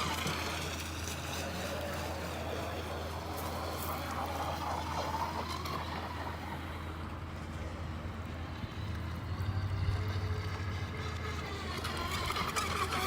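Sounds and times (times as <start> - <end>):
distant toy boat motor: 0.0 - 13.0.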